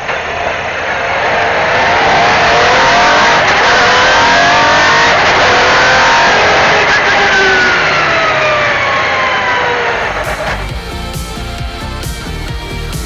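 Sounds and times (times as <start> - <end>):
rally car engine revving: 1.0 - 13.0.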